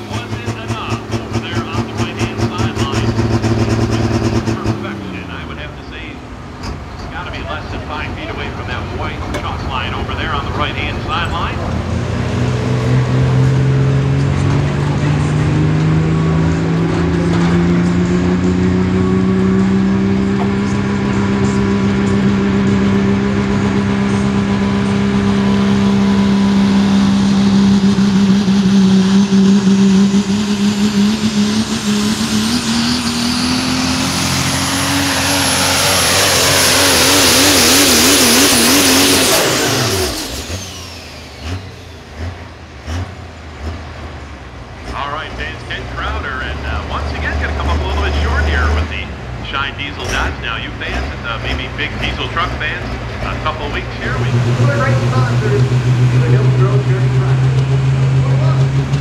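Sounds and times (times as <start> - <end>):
loud diesel engine at full throttle: 0.0 - 59.0.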